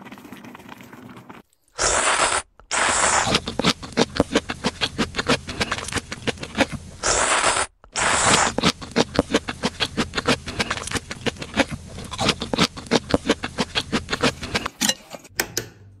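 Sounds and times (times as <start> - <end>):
loud noodle slurps: 0.0 - 14.7
wet chewing: 0.0 - 14.7.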